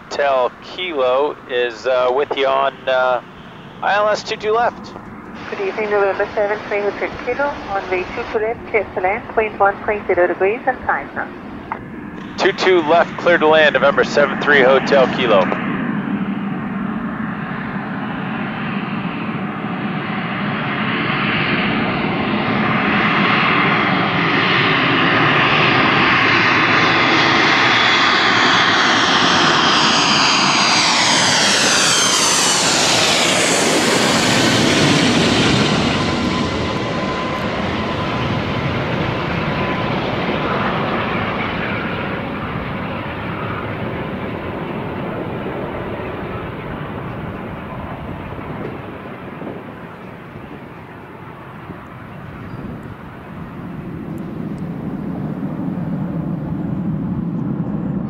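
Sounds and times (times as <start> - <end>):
jet engine whine: 0.0 - 58.0
jet flying past: 0.0 - 58.0.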